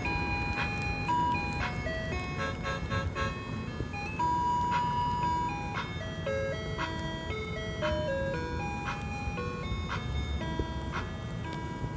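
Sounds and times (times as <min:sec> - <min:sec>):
ice cream truck chime melody: 0:00.0 - 0:11.9.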